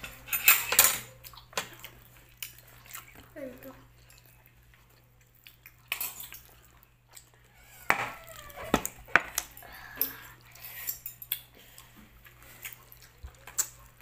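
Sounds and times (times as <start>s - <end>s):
chewing and mouth smacks: 1.1s - 7.6s, 8.2s - 14.0s.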